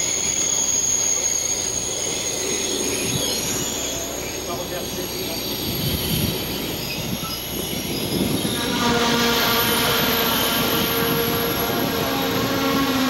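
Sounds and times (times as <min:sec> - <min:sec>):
multi-tone train whine: 0:00.0 - 0:13.0
train wheels rumbling on rail: 0:00.0 - 0:13.0.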